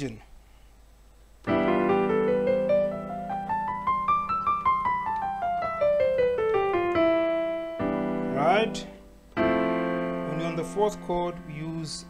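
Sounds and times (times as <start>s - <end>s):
digital keyboard chord and scale: 1.4s - 12.0s.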